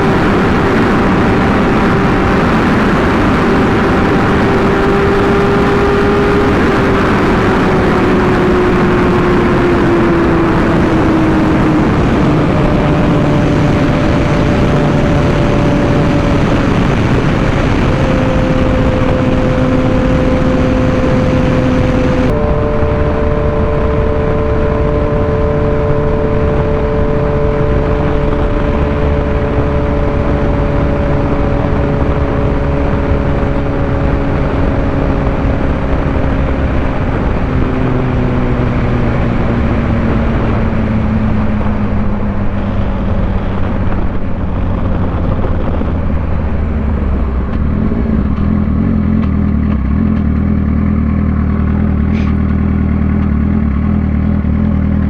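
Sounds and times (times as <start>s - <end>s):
motorcycle engine: 0.0s - 55.0s
wind noise: 0.0s - 55.0s.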